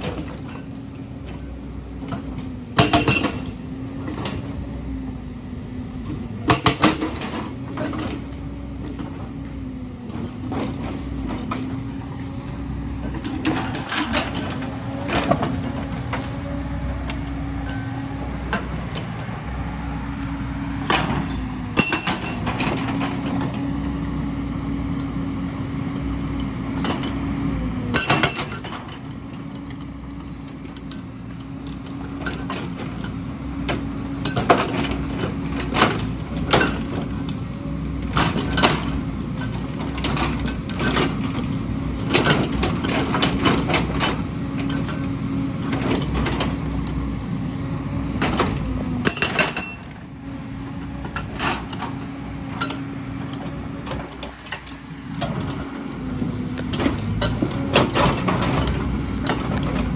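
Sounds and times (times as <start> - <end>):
excavator engine drone: 0.0 - 59.9.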